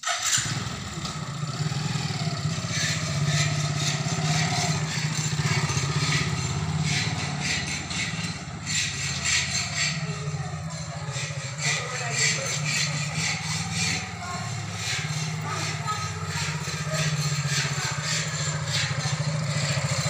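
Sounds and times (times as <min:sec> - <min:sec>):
small motorcycle engine: 0:00.0 - 0:20.0
metal trailer rattling: 0:00.3 - 0:20.0.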